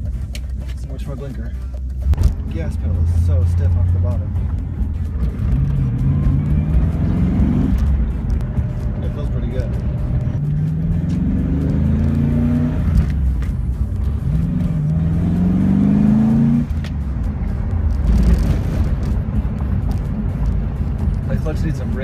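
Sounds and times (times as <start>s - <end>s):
engine accelerating: 1.8s - 22.0s.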